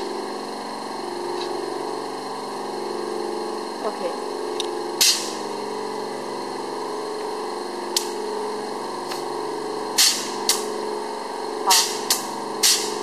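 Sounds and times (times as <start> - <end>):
machine motor humming: 0.0 - 13.0.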